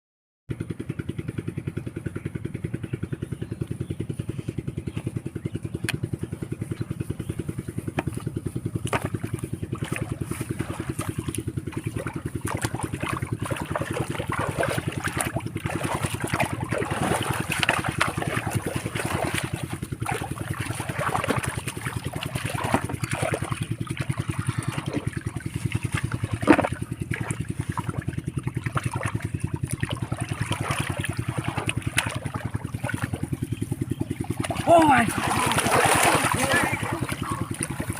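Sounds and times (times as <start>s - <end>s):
small engine running: 0.5s - 37.9s
water splashing and sloshing: 3.6s - 37.9s.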